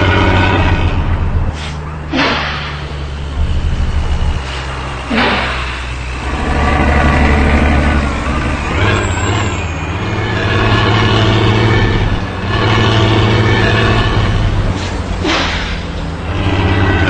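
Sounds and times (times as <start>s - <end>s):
bus diesel engine rumbling: 0.0s - 17.0s.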